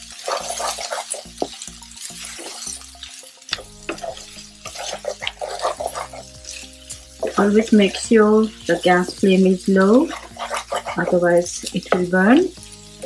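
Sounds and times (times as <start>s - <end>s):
spatula scraping frying pan: 0.0s - 13.0s
vegetables frying: 0.0s - 13.0s.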